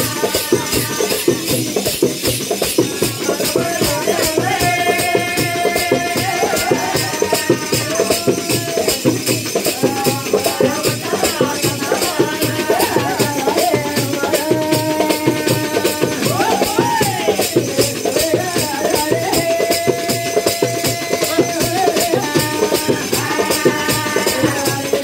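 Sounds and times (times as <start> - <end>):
fast barrel drum beat: 0.0 - 25.0
jingling rattle percussion: 0.0 - 25.0.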